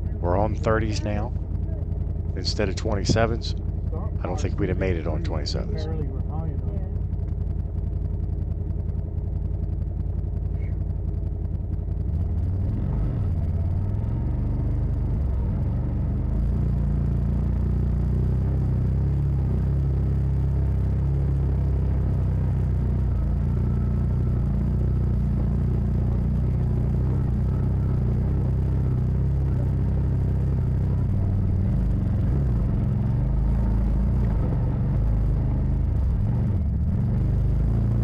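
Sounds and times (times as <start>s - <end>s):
vehicle engine low drone: 0.0s - 38.0s.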